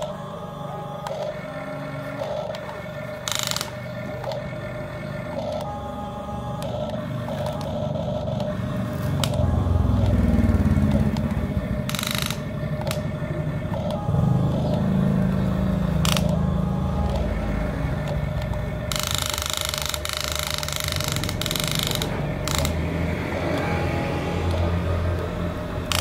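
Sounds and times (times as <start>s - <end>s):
short bursts of noise: 0.0s - 5.8s, 6.6s - 26.0s
electric motors whirring: 0.0s - 26.0s.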